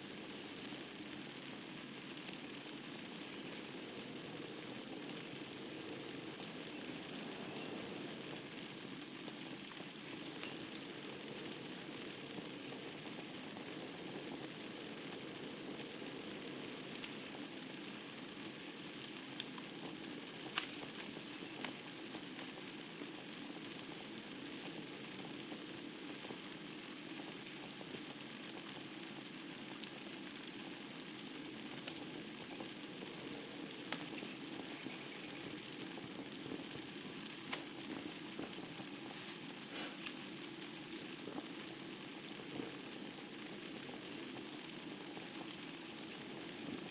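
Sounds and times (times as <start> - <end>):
fire crackling and popping: 0.0 - 46.9
fire hissing: 0.0 - 46.9.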